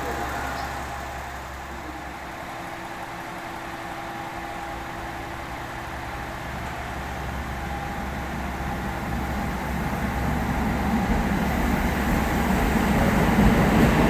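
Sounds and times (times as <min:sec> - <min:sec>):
train equipment humming: 0:00.0 - 0:14.0.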